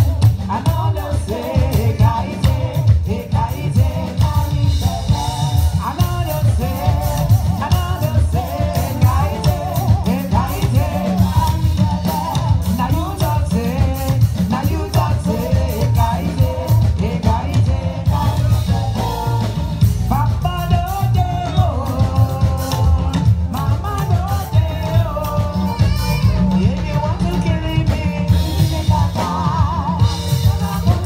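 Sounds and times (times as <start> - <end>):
live band playing: 0.0 - 31.0
people singing: 0.0 - 31.0.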